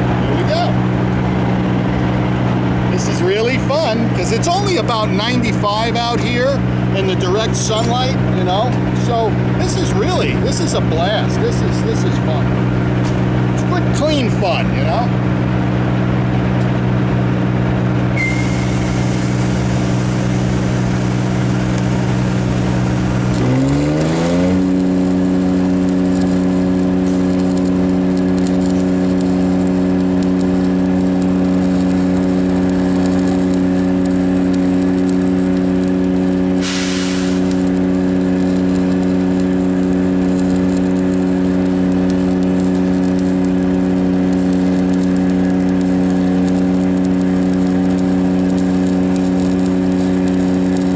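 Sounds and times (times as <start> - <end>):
welder engine running: 0.0 - 50.9.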